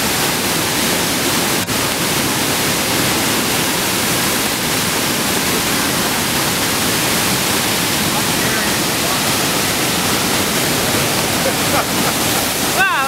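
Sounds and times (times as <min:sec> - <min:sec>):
river rushing over waterfall: 0:00.0 - 0:13.0.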